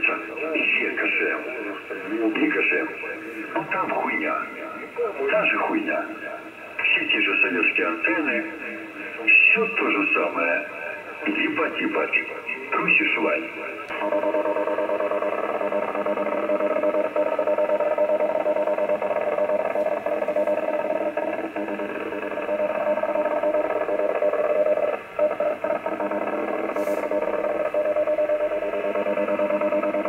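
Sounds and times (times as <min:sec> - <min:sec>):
buzzing radio signal: 0:00.0 - 0:30.0.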